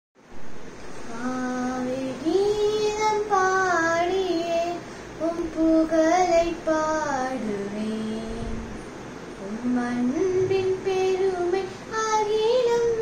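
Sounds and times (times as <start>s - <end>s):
girl singing a hymn unaccompanied: 1.0s - 8.8s, 9.4s - 13.0s.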